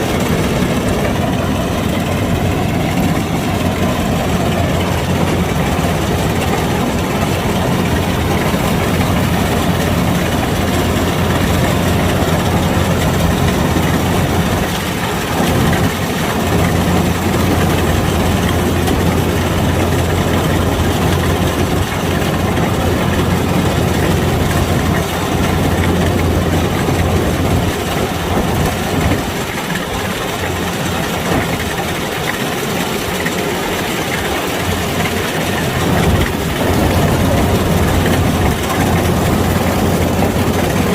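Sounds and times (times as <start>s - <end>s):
combine harvester diesel engine hum: 0.0s - 40.9s.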